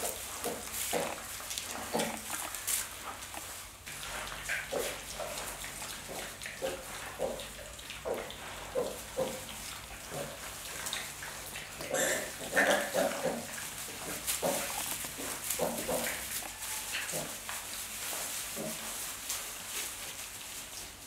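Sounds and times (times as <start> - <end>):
pigs grunting: 0.0 - 17.8, 18.5 - 19.0.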